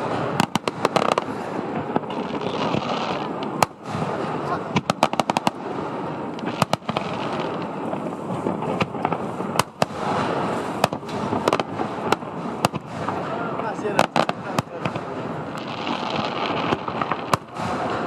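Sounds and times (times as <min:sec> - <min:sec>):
fireworks bangs: 0:00.0 - 0:18.0
fireworks crackle and rumble: 0:00.0 - 0:18.0.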